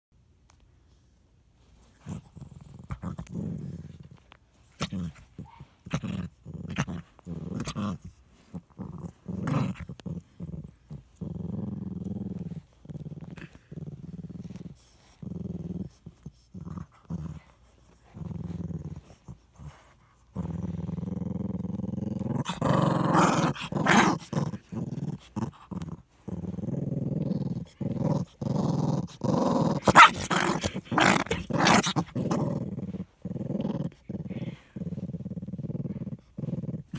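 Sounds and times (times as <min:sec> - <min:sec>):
small dog growling: 0:01.9 - 0:36.9.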